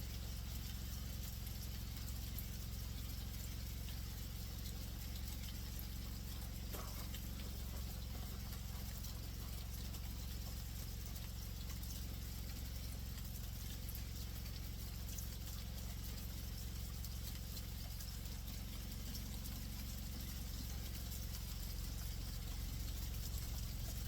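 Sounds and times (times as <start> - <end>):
battered meat frying in oil: 0.0 - 24.0
constant low hum: 0.0 - 24.0.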